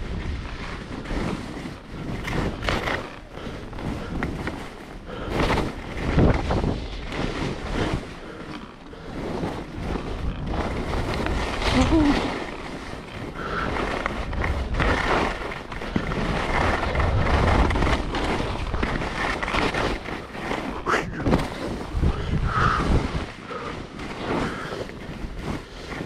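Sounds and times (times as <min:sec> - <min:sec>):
wind on microphone: 0:00.0 - 0:08.4, 0:09.5 - 0:25.9
skis scraping through snow: 0:00.0 - 0:26.0.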